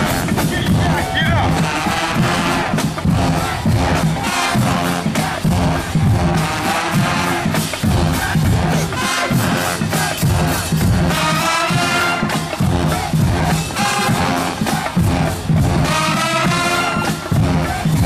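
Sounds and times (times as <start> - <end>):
crowd noise: 0.0 - 18.0
heavy drums: 0.0 - 18.0
marching band playing: 0.0 - 18.0.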